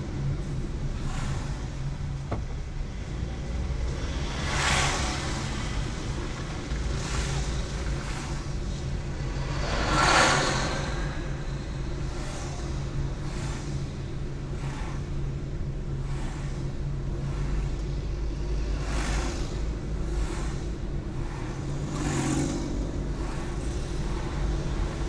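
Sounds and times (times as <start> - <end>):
car engine and road drone: 0.0 - 25.0
passing vehicles tyre noise: 0.0 - 25.0.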